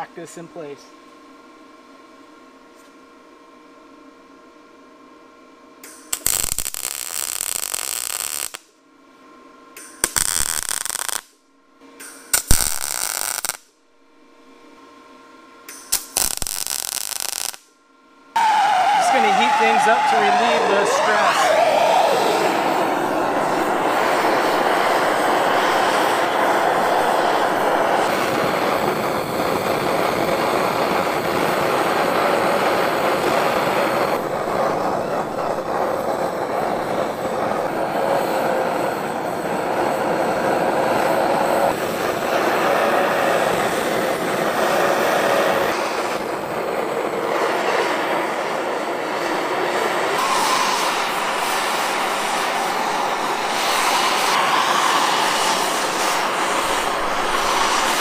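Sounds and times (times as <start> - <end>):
gas torch hissing: 5.8 - 8.7, 9.8 - 11.4, 12.1 - 13.7, 15.7 - 17.7, 18.4 - 58.0.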